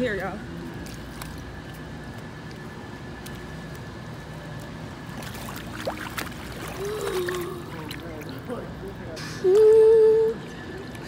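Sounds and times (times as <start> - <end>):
pool water sloshing and lapping: 0.0 - 11.0.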